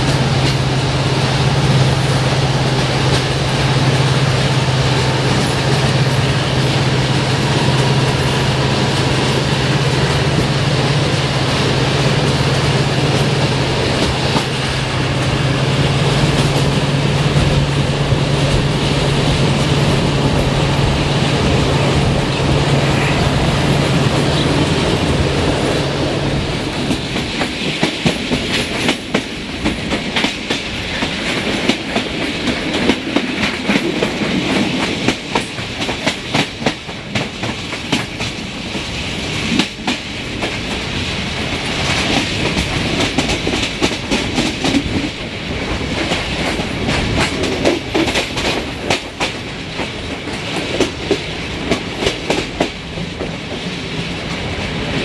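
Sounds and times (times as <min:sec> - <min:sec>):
clickety-clack of train wheels: 0:00.0 - 0:55.0
train rumble and low hum: 0:00.0 - 0:55.0.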